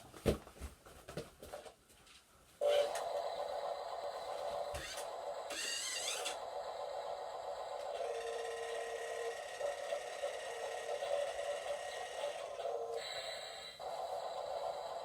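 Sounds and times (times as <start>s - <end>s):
small motor whirring: 2.6s - 15.0s.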